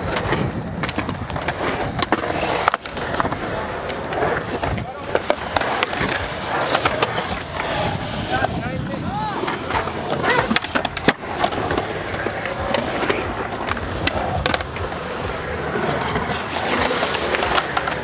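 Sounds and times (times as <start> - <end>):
skateboard clacking on ground: 0.0 - 18.0
skateboard wheels rolling on concrete: 0.0 - 18.0.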